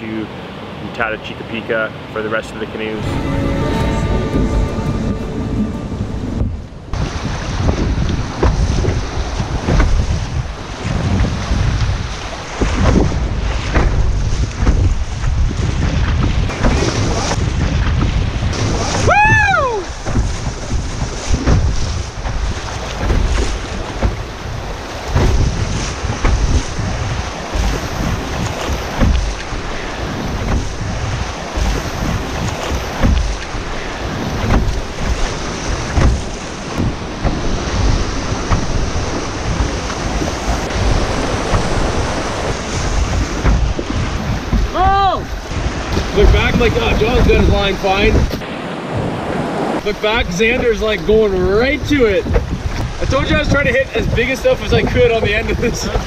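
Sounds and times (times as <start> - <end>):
rushing whitewater river: 0.0 - 15.2, 18.5 - 52.2
wind buffeting microphone: 2.5 - 56.0.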